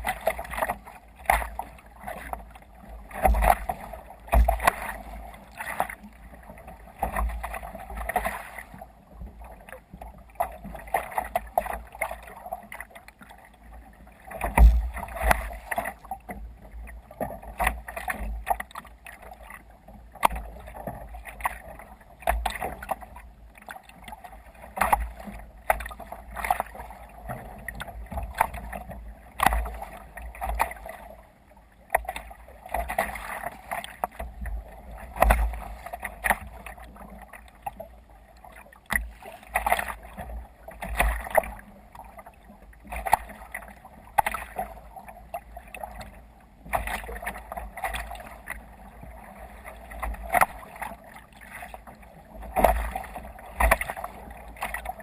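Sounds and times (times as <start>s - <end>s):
water splashing against kayak hull: 0.0s - 55.0s.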